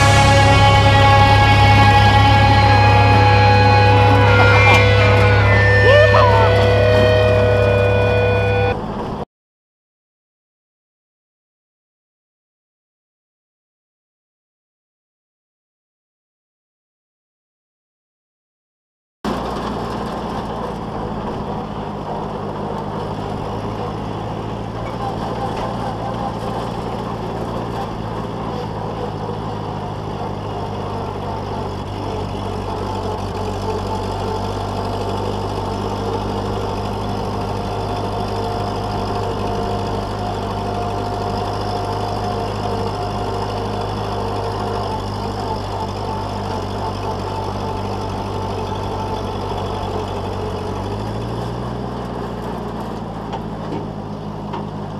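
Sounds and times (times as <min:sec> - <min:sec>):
tractor engine running: 0:00.0 - 0:09.2, 0:19.3 - 0:54.9.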